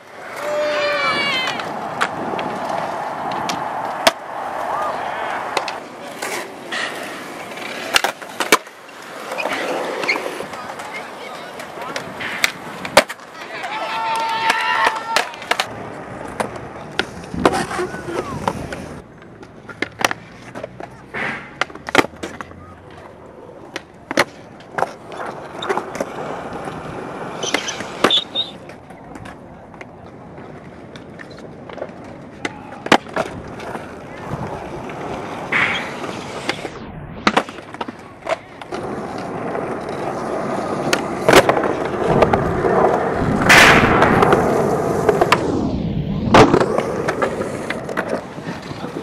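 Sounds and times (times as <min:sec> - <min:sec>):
skateboard clacking on ground: 0:00.0 - 0:45.5, 0:46.3 - 0:49.0
skateboard wheels rolling on concrete: 0:00.0 - 0:49.0.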